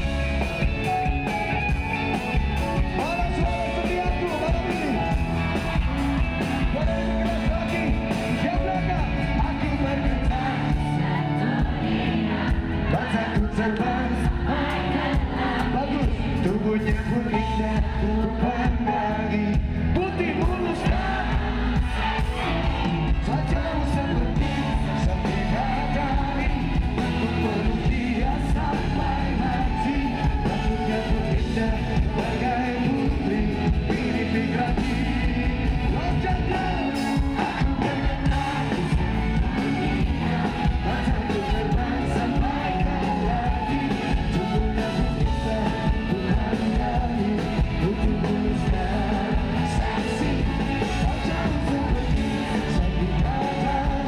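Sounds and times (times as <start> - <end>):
live pop-rock band: 0.0 - 54.0
person singing: 0.0 - 54.0.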